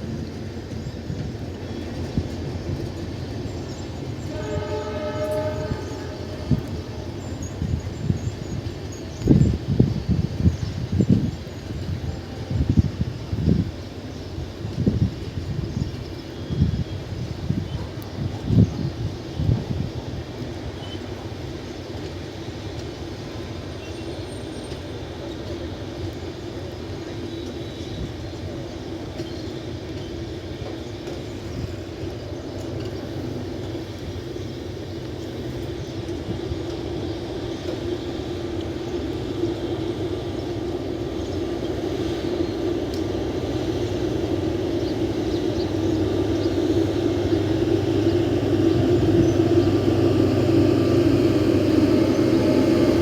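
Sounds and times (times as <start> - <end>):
diesel train rumbling: 0.0 - 53.0.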